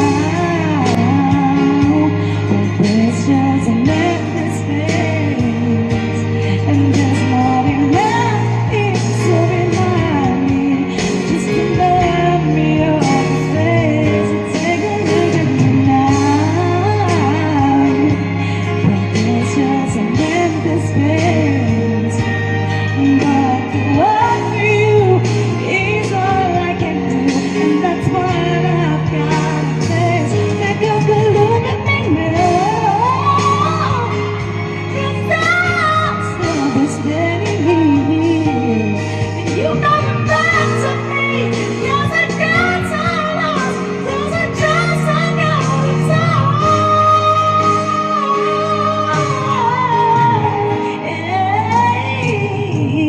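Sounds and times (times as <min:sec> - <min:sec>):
pop ballad backing track: 0:00.0 - 0:53.0.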